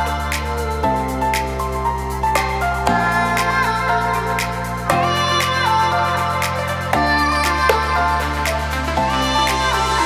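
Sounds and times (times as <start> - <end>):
background music with light beat: 0.0 - 10.0.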